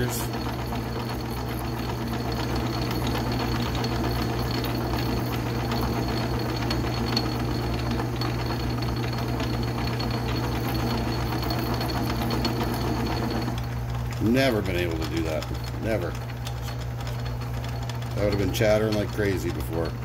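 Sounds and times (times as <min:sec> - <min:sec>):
metal lathe cutting steel: 0:00.0 - 0:20.0.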